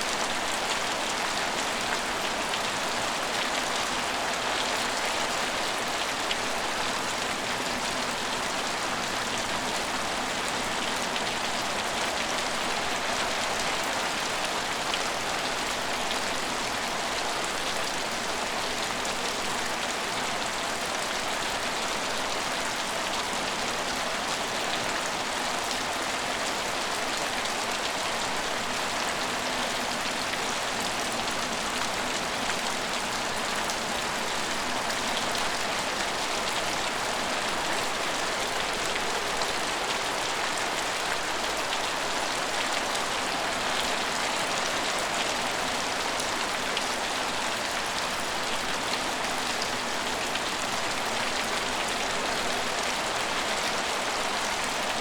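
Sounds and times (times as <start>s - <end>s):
rain falling on roofs: 0.0s - 55.0s.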